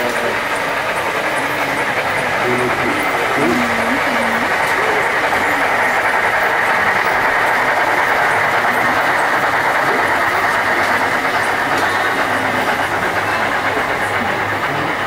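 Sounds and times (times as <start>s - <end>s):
model trains whirring on tracks: 0.0s - 15.0s.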